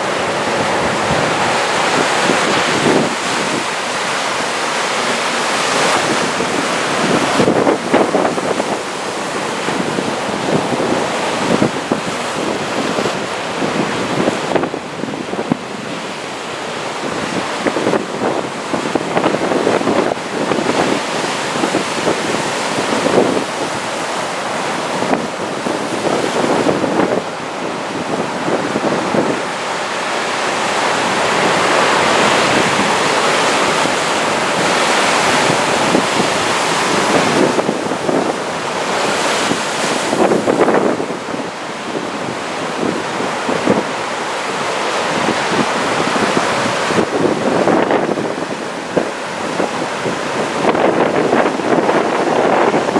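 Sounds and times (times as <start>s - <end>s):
heavy surf crashing ashore: 0.0s - 52.9s
wind gusting against microphone: 0.0s - 52.9s.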